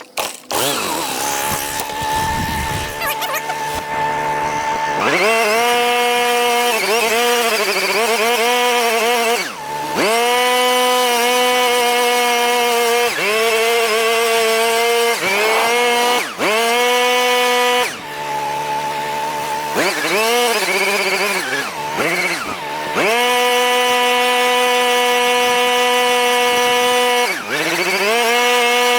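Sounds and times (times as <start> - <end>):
lawn mower cutting grass: 0.0 - 28.9.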